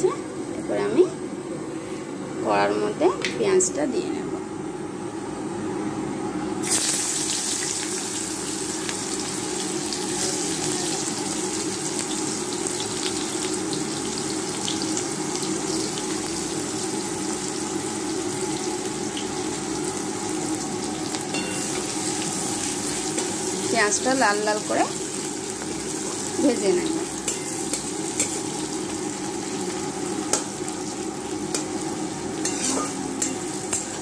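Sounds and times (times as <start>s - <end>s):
onions sizzling in hot oil: 6.6s - 34.0s.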